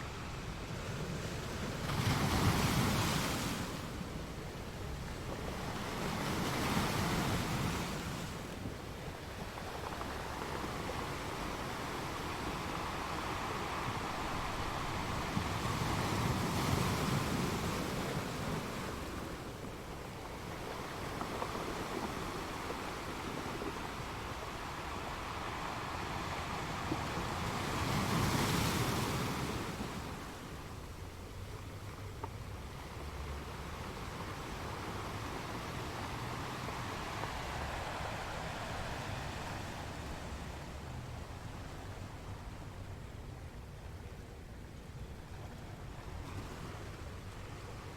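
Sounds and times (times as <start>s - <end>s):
waves washing onto stones: 0.8s - 42.5s.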